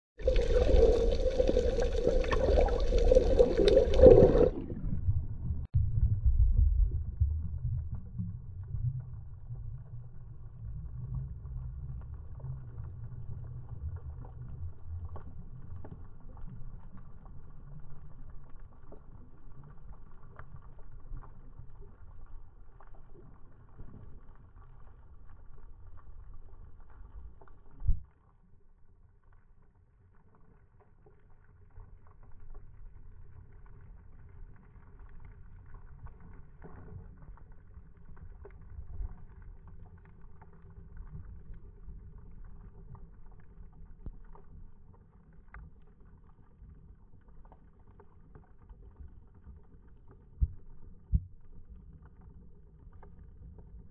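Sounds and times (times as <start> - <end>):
underwater water rumble: 0.1 - 53.9.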